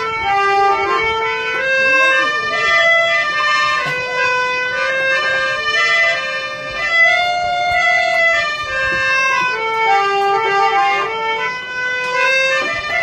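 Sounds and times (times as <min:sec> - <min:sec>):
harmonium melody: 0:00.0 - 0:13.0.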